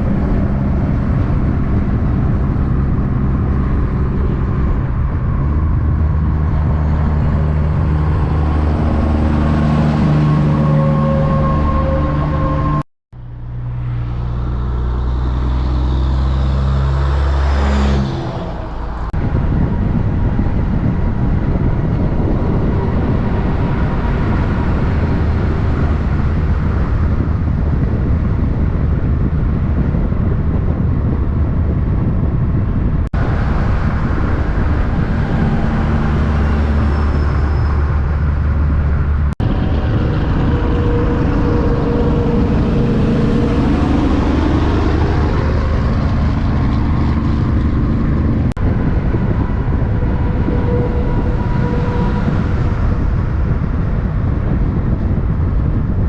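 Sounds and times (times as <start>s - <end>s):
road traffic noise: 0.0s - 56.0s
truck engine drone: 0.0s - 56.0s.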